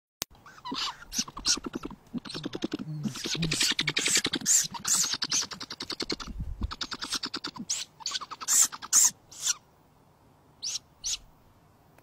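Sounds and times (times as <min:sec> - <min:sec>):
owl chicks squeaking: 0:00.4 - 0:09.6, 0:10.6 - 0:11.3.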